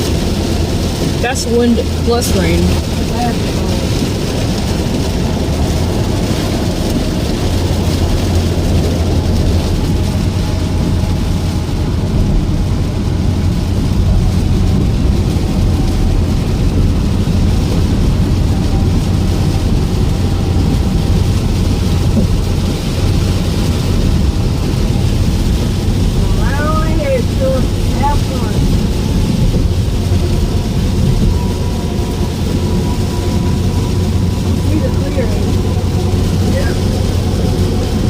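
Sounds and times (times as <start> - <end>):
rain: 0.0 - 38.0
strong wind: 0.0 - 38.0.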